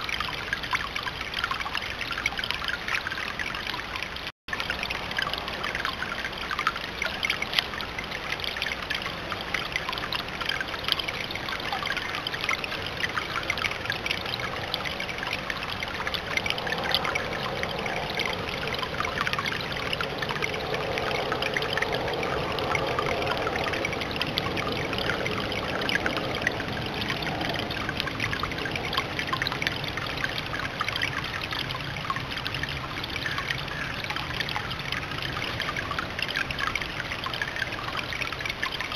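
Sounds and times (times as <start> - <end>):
fountain water splashing over rock: 0.0 - 38.9.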